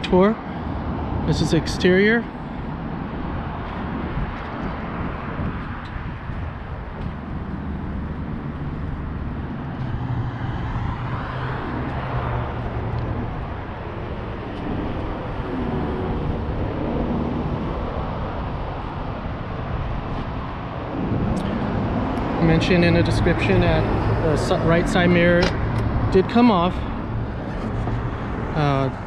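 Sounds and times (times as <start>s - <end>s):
road traffic noise: 0.0s - 29.0s
vehicle passing: 0.8s - 29.0s.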